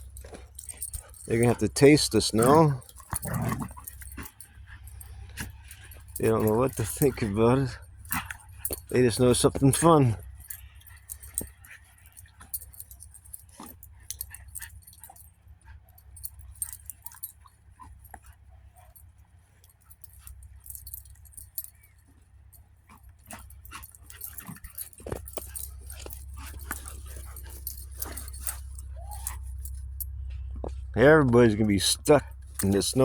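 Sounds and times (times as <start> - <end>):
small clicks and jingles: 0.0 - 33.0.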